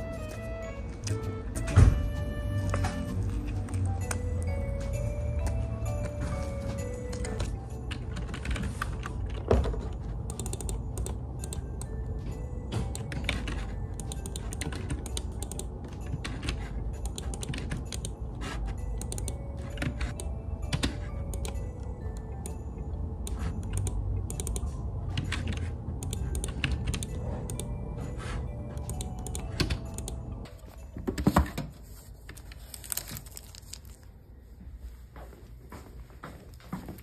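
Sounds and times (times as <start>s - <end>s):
soft background music: 0.0s - 37.0s.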